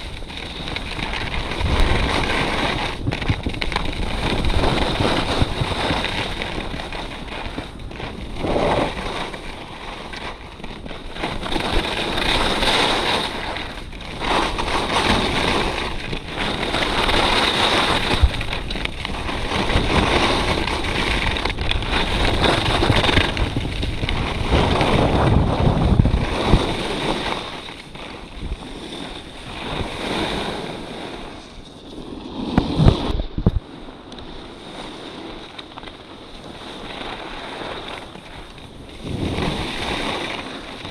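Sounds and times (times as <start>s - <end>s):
wind buffeting microphone: 0.0s - 9.8s, 10.4s - 34.7s, 35.3s - 40.9s
skis scraping on snow: 0.0s - 40.9s.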